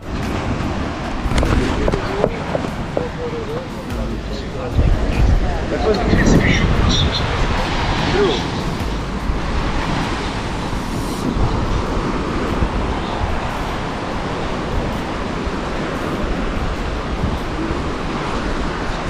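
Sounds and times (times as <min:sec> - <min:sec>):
sea surf: 0:00.0 - 0:19.0
wind buffeting microphone: 0:00.0 - 0:19.0.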